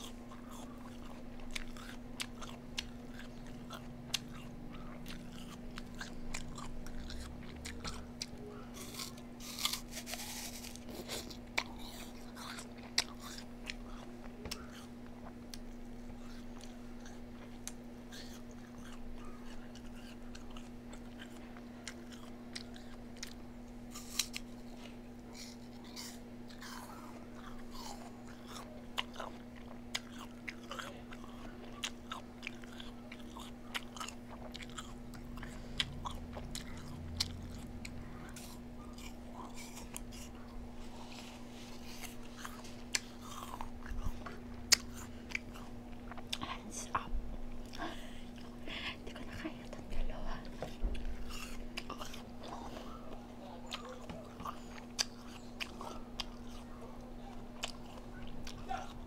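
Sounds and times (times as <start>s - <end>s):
chewing and biting: 0.0s - 59.0s
steady low hum: 0.0s - 59.0s.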